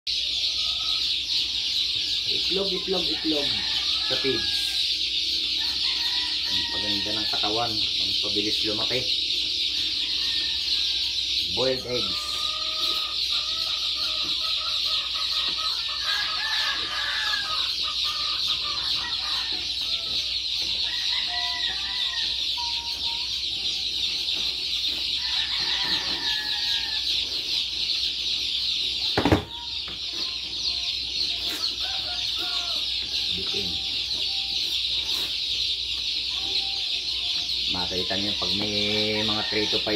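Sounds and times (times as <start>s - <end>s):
chicken clucks and calls: 0.1s - 39.9s
chicks peeping: 0.1s - 39.9s.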